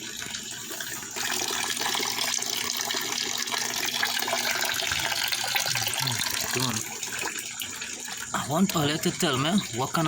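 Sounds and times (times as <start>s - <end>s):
running water pouring: 0.0s - 10.0s.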